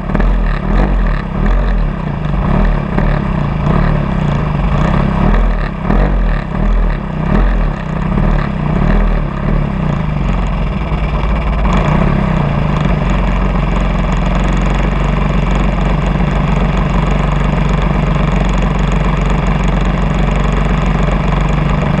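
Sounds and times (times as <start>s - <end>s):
model airplane engine idling: 0.0s - 22.0s.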